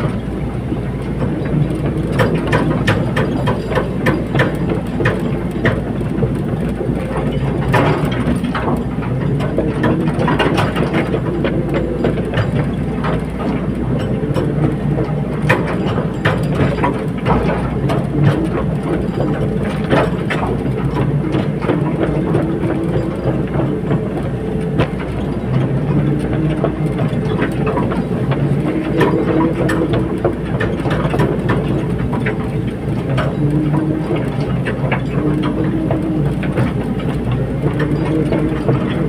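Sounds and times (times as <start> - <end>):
excavator diesel engine: 0.0 - 39.0
metallic clanks and knocks: 1.2 - 6.4, 7.2 - 39.0.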